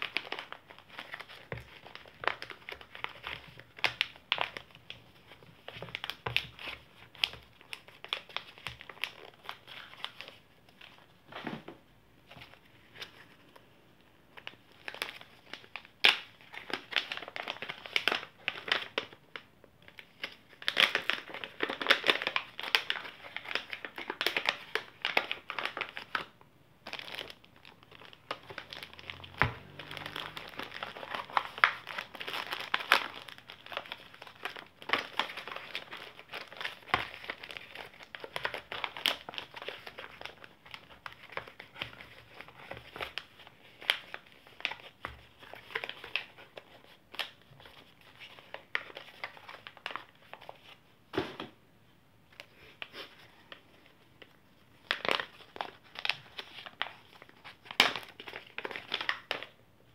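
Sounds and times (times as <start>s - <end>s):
paper bags crinkling: 0.0s - 11.1s, 20.0s - 50.8s, 52.8s - 59.6s.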